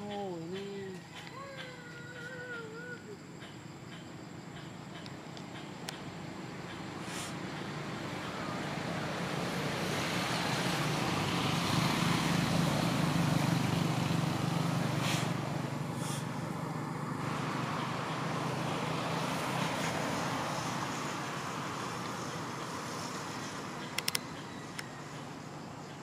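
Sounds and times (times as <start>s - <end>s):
passing vehicle engine hum: 0.0s - 26.0s.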